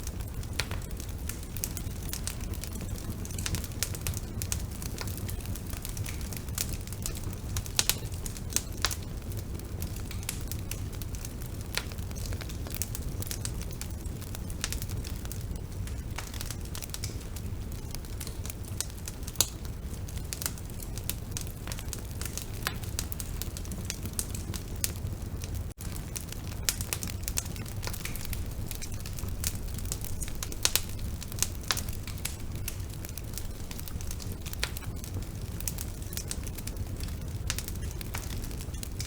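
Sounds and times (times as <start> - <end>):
bonfire wood crackling and popping: 0.0 - 39.0
low rumble of flames: 0.0 - 39.0.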